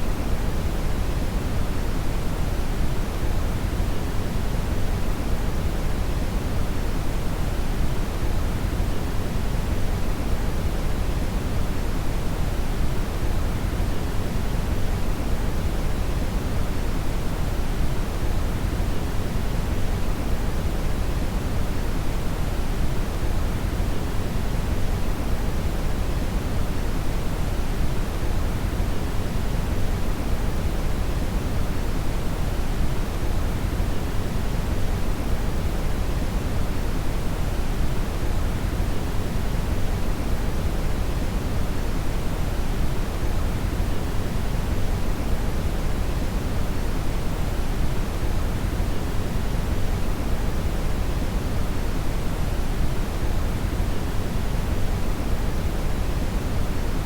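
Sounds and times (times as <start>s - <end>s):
brown noise rumbling hiss: 0.0s - 57.0s.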